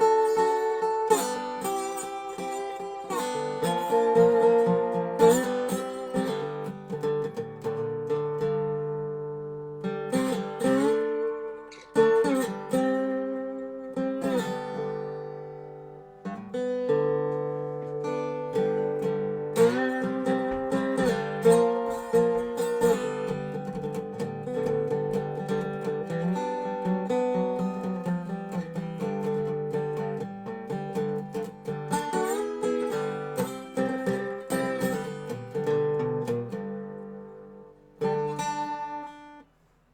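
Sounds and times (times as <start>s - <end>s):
slide resonator guitar blues: 0.0s - 39.4s.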